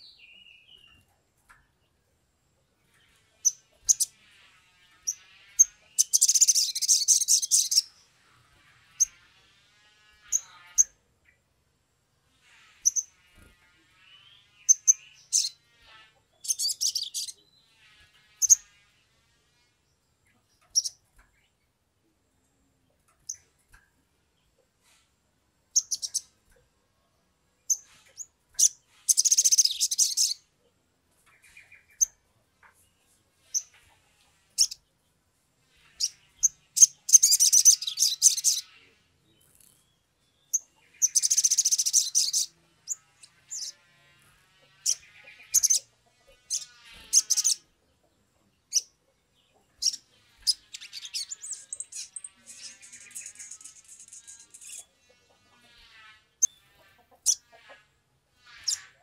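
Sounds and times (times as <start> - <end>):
bird chirping and twittering: 0.0 - 2.0, 2.8 - 11.4, 12.4 - 18.9, 19.9 - 21.7, 23.0 - 25.0, 25.7 - 26.6, 27.6 - 30.6, 31.2 - 57.8, 58.4 - 59.0.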